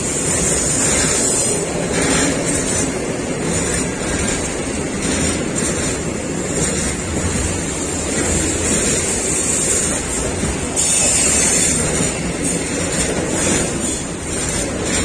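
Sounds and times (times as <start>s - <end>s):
train wheels running over rails: 0.0s - 15.0s.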